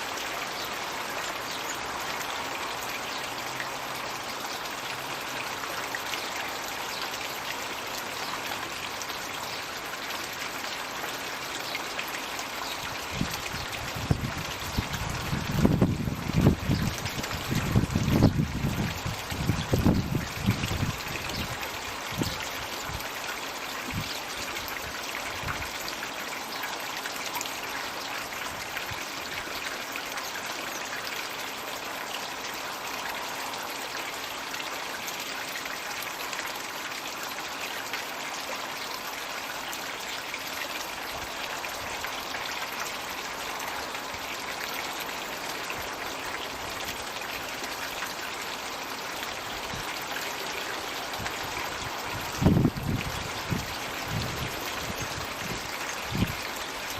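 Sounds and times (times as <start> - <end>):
water pouring into pond: 0.0 - 56.9.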